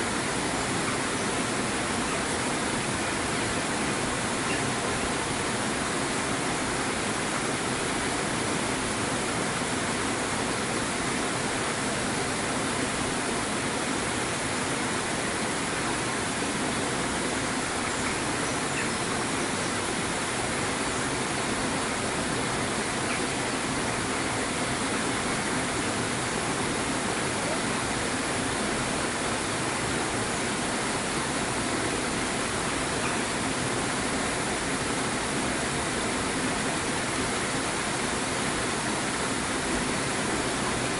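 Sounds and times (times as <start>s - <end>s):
rush of falling water: 0.0s - 40.9s.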